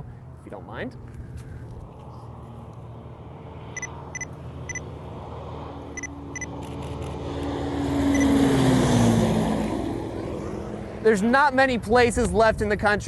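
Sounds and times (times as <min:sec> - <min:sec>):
propeller plane engine hum: 0:00.0 - 0:12.3.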